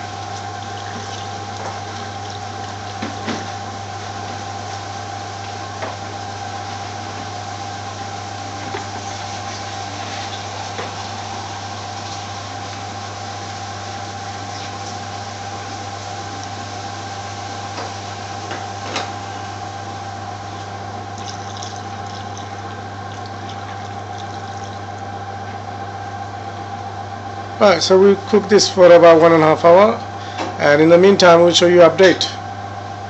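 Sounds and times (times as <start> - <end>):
machine hum with whine: 0.0 - 33.0.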